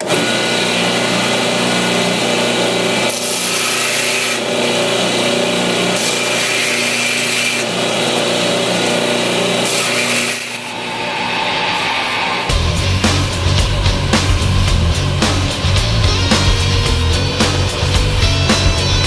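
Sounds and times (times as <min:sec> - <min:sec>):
belt grinder grinding steel: 0:00.0 - 0:19.0.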